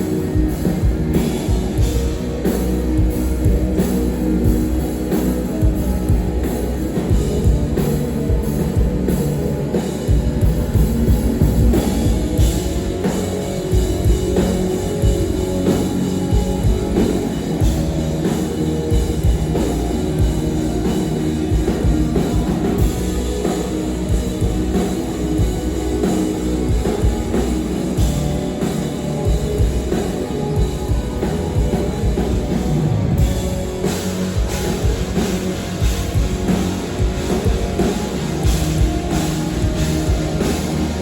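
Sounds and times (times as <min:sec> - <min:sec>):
drum kit: 0:00.0 - 0:41.0
electric guitar: 0:00.0 - 0:41.0
live rock band playing: 0:00.0 - 0:41.0.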